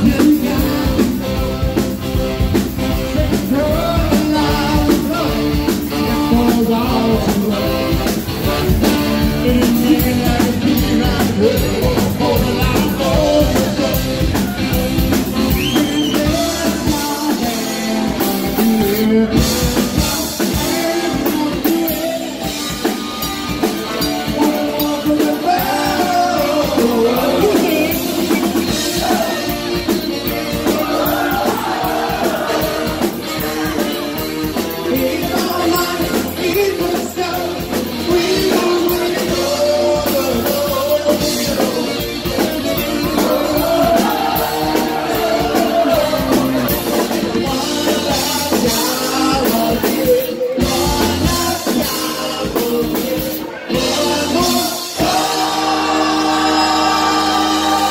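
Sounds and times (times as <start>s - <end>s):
electric bass: 0.0s - 57.9s
man singing: 0.0s - 57.9s.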